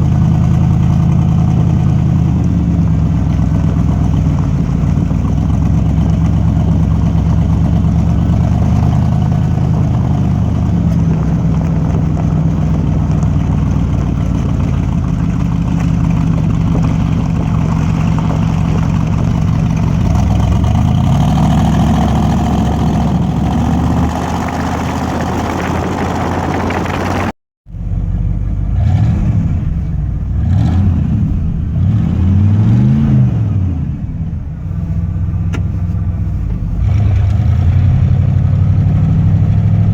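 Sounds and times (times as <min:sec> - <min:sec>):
engine revving in blips: 0:00.0 - 0:27.3, 0:28.3 - 0:39.9
engine running deep note: 0:00.0 - 0:39.9.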